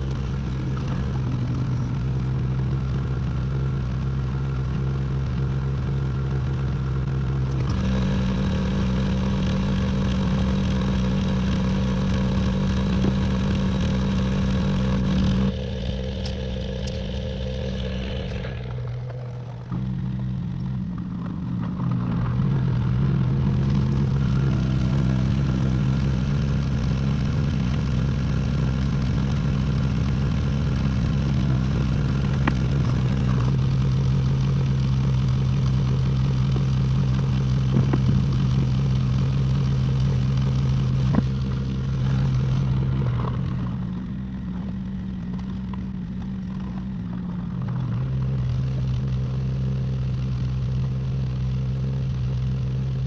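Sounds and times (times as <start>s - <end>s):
excavator engine running: 0.0s - 53.0s.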